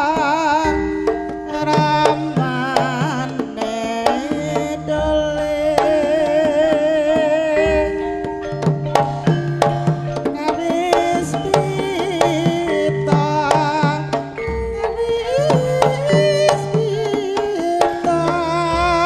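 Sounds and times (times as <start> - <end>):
drum strokes: 0.0 - 19.0
metallophone and gong notes: 0.0 - 19.0
wavering melody line: 0.0 - 19.0.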